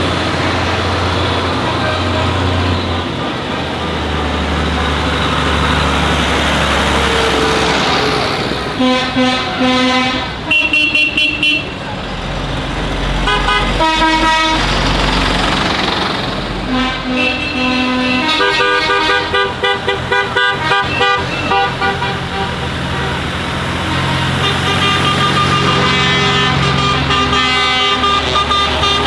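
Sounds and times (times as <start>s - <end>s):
lorry horns blasting: 0.0s - 11.9s, 12.9s - 29.0s
traffic noise: 0.0s - 29.0s.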